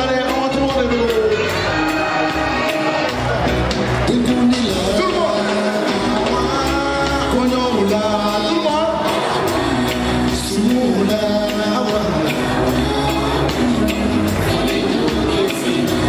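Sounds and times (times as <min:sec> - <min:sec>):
amplified music with bass and drums: 0:00.0 - 0:16.0
man singing: 0:00.0 - 0:16.0.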